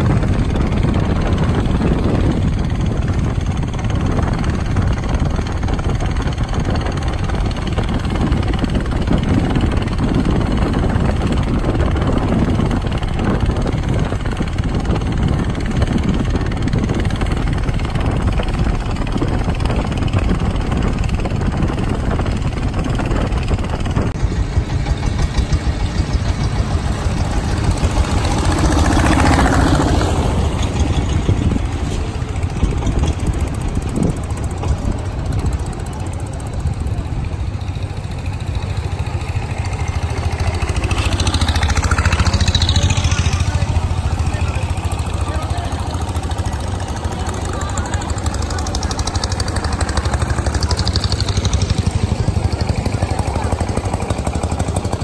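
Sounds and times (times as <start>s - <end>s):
motor engine running: 0.0s - 55.0s.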